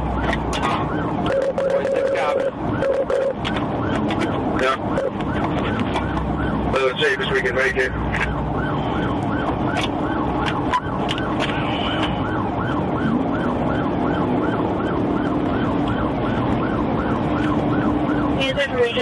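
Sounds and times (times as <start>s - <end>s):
car engine: 0.0s - 19.0s
police siren yelping: 0.0s - 19.0s
road noise: 0.0s - 19.0s.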